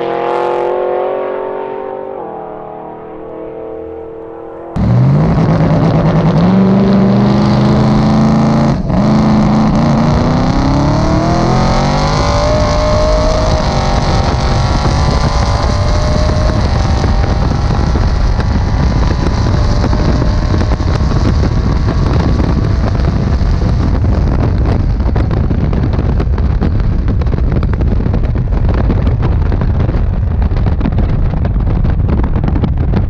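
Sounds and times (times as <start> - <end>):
car engine at full throttle: 0.0 - 33.0
wind buffeting: 0.0 - 33.0.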